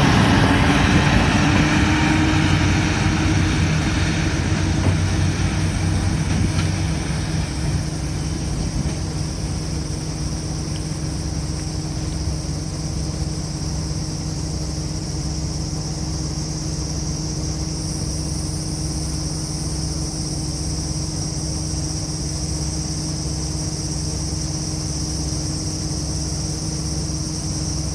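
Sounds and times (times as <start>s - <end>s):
insects buzzing: 0.0s - 27.9s
train diesel engines droning: 0.0s - 27.9s.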